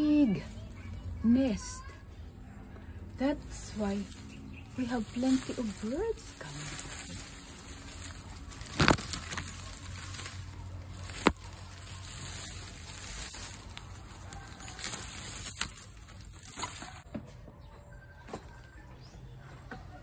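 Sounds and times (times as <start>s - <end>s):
leaves and twigs rustling: 0.0s - 2.0s, 3.0s - 17.1s.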